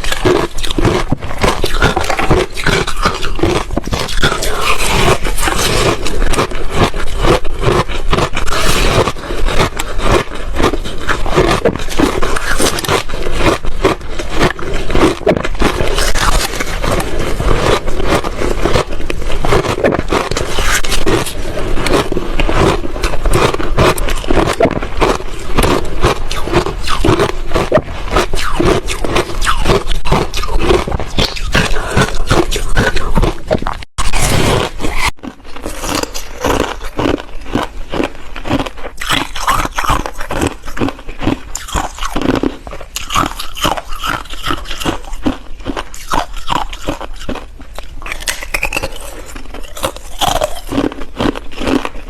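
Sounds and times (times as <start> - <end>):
ice crunching: 0.0 - 47.4.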